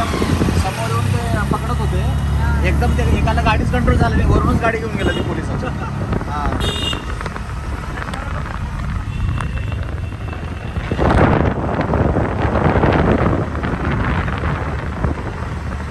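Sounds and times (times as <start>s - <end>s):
street traffic: 0.0s - 15.9s
wind rumbling on microphone: 0.0s - 15.9s.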